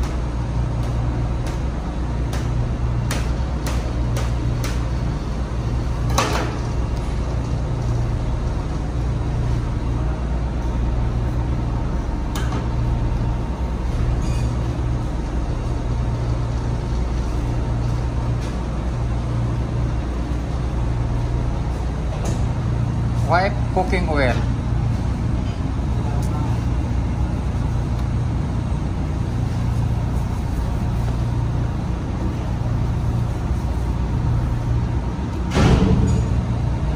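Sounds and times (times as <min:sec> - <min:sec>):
low machinery drone: 0:00.0 - 0:36.9.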